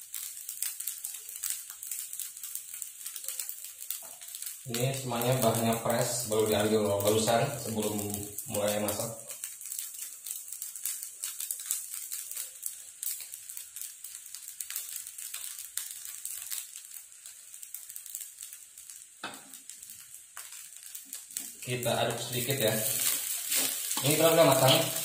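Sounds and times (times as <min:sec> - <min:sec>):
rice sizzling in a hot wok: 0:00.0 - 0:25.0.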